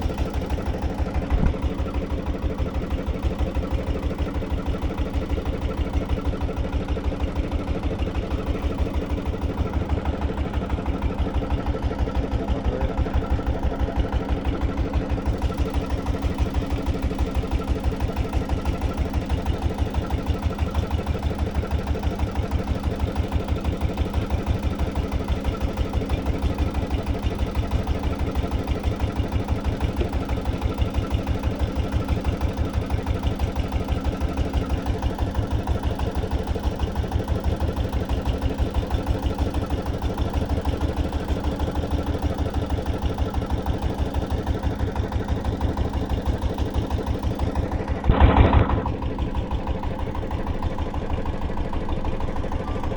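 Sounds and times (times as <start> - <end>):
engine running with pulsing beat: 0.0 - 52.9.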